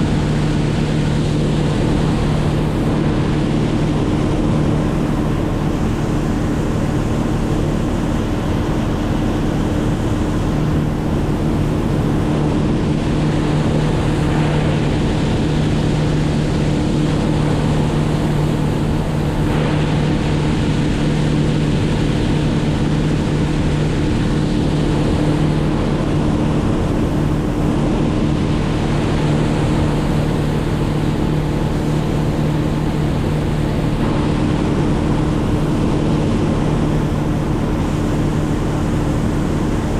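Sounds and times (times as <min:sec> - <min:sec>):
engine droning: 0:00.0 - 0:39.9
rushing wind or water: 0:00.0 - 0:39.9.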